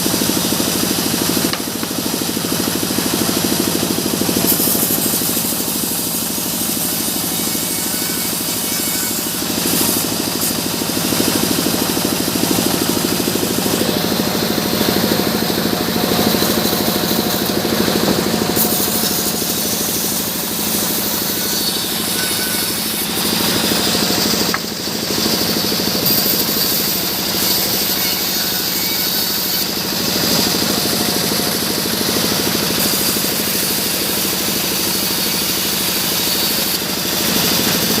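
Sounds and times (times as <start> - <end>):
sawmill engine chugging: 0.0 - 38.0.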